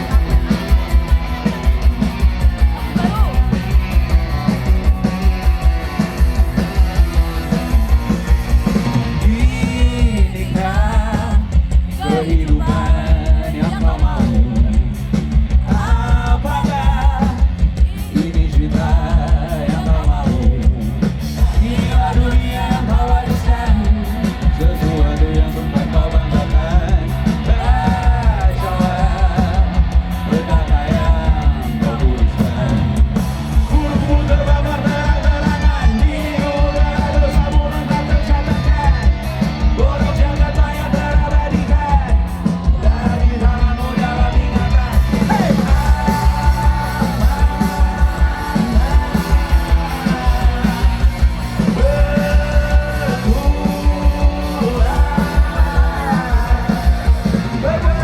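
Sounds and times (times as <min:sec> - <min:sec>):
driving drum beat: 0:00.0 - 0:58.0
loud rock band music: 0:00.0 - 0:58.0
person shout-singing: 0:02.6 - 0:06.1, 0:09.2 - 0:14.8, 0:15.6 - 0:20.6, 0:21.4 - 0:33.0, 0:33.6 - 0:58.0.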